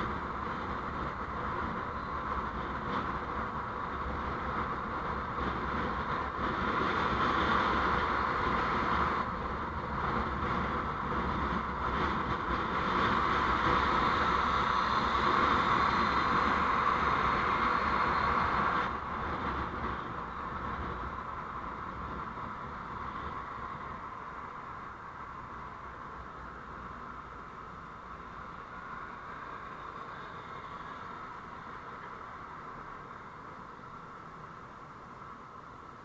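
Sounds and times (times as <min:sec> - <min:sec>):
vehicle road noise: 0:00.0 - 0:36.0.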